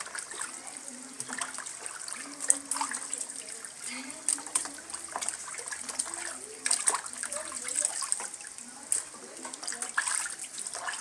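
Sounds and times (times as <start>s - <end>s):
water splashing and sloshing: 0.0s - 11.0s
water trickling: 0.0s - 11.0s.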